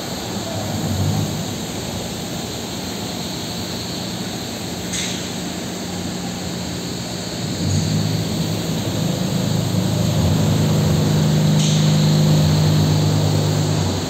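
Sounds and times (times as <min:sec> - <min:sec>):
heavy machinery droning: 0:00.0 - 0:14.0.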